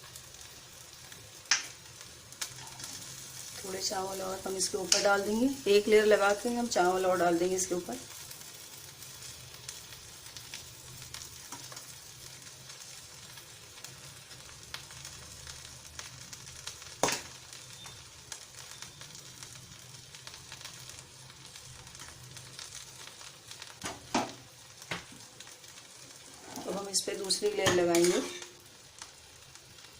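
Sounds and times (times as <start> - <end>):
pot sizzling and crackling: 0.0 - 29.9.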